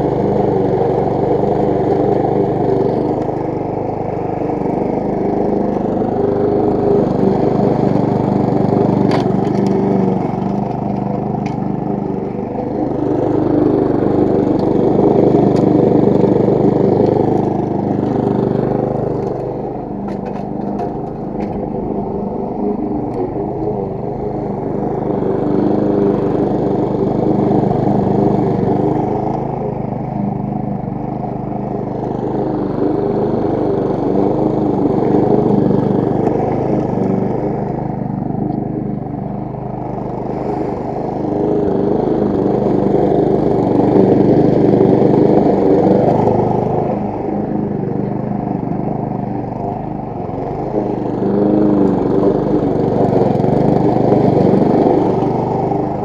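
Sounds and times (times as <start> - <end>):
lawn mower cutting grass: 0.0 - 56.0.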